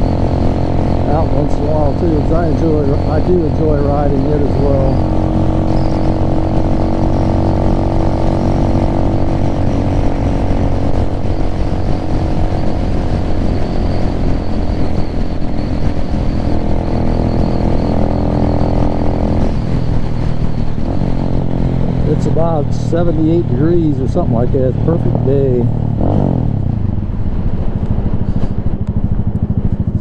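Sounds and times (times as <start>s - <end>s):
motorcycle engine running: 0.0s - 30.0s
road noise: 0.0s - 30.0s
wind noise: 0.0s - 30.0s.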